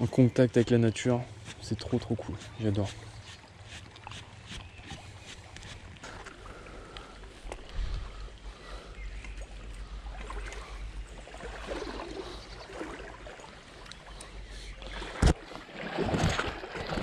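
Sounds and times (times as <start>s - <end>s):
stream running over stones: 0.0s - 8.1s, 9.2s - 17.0s.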